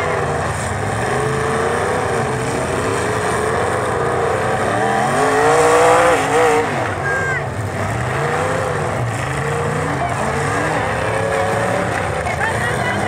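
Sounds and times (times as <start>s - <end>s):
car engine revving: 0.0s - 13.0s
car engines running: 0.0s - 13.0s.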